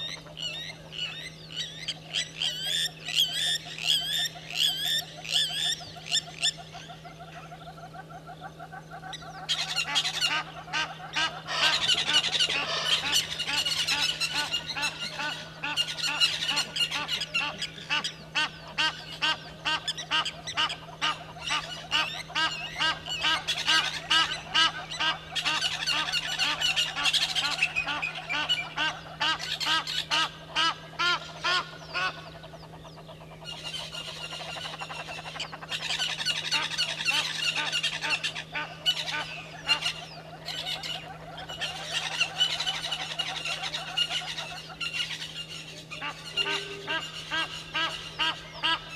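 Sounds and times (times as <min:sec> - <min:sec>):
chorus of birds calling: 0:00.0 - 0:48.9
steady low hum: 0:00.0 - 0:48.9.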